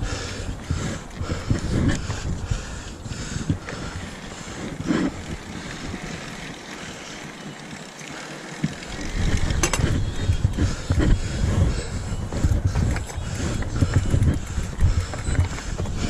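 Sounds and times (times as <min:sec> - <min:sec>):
bike rattling and knocking: 0:00.0 - 0:16.0
bike tyres rumbling over dirt: 0:00.0 - 0:16.0.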